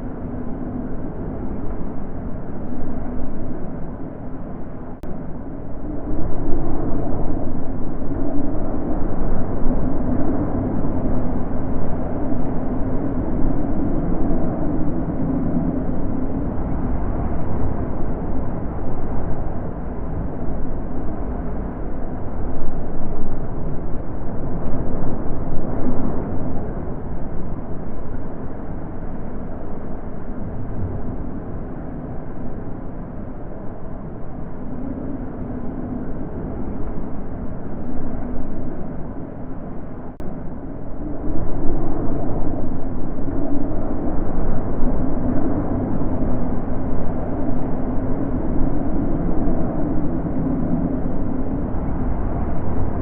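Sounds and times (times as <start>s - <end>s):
wind gusts rushing: 0.0s - 53.0s.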